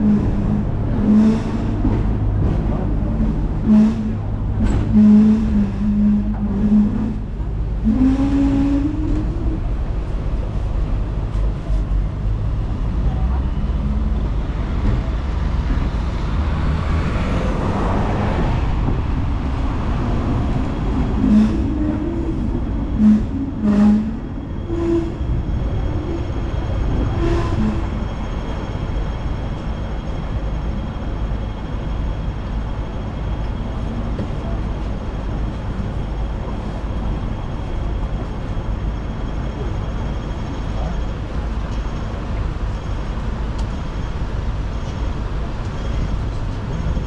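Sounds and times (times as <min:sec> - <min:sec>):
tram rumbling on rails: 0:00.0 - 0:47.0.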